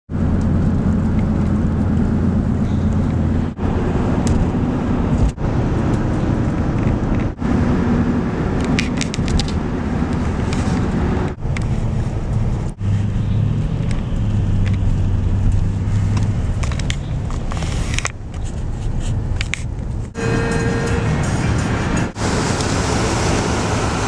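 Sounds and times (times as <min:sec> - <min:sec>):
car engine and road noise: 0:00.1 - 0:24.0.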